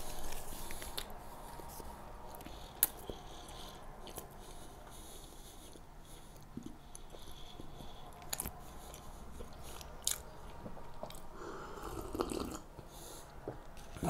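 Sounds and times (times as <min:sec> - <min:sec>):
chewing soft cookies: 0:00.0 - 0:14.0.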